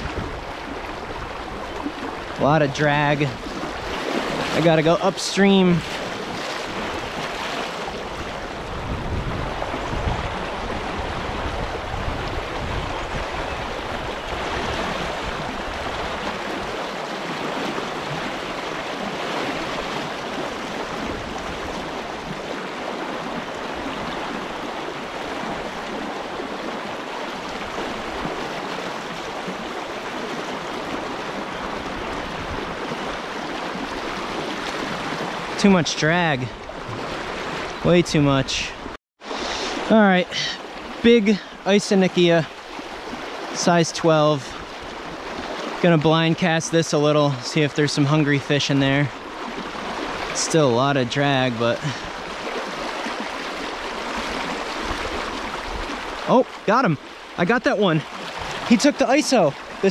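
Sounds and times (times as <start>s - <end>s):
river current rushing and gurgling: 0.0s - 59.9s.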